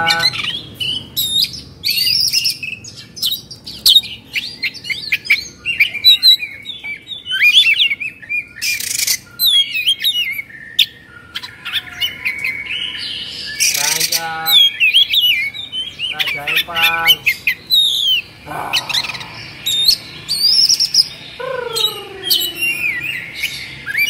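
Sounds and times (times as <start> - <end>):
bird singing whistles and chirps: 0.0 - 24.0.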